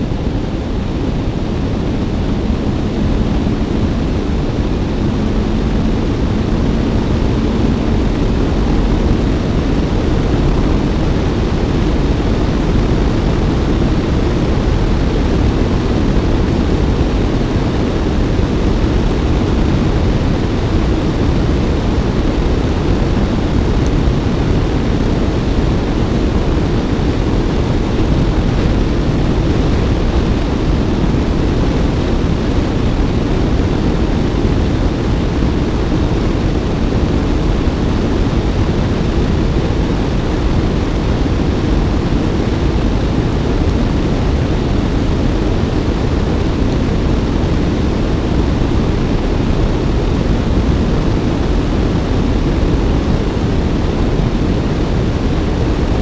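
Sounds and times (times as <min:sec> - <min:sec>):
motorcycle engine running: 0:00.0 - 0:46.2
wind rushing over microphone: 0:00.0 - 0:56.0.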